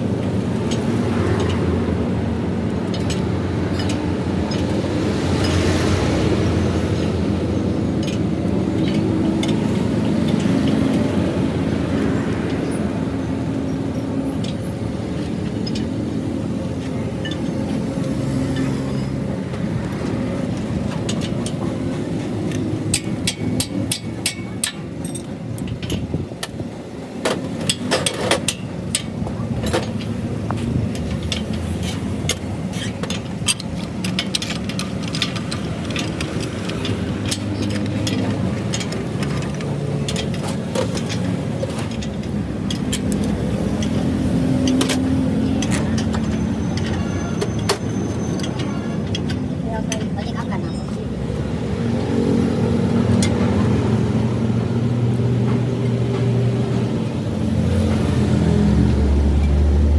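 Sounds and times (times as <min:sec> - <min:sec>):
engine-like drone: 0:00.0 - 0:59.9
metallic clicks and knocks: 0:00.0 - 0:59.9.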